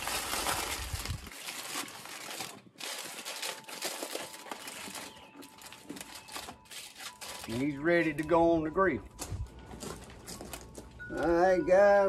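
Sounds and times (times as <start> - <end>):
aluminium foil crinkling: 0.0 - 11.4.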